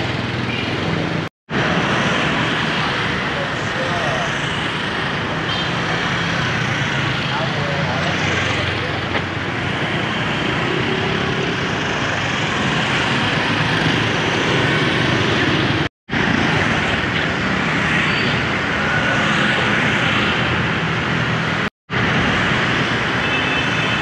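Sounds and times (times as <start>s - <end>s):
street traffic din: 0.0s - 24.0s.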